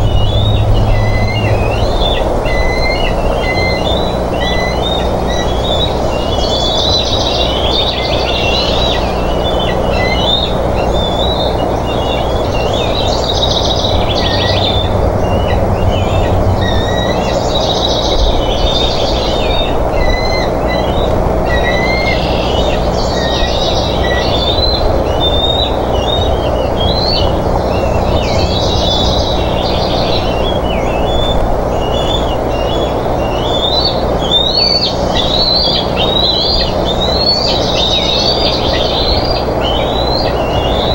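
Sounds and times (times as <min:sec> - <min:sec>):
birds chirping: 0:00.0 - 0:40.9
low hum: 0:00.0 - 0:40.9
steady rushing noise: 0:00.0 - 0:40.9.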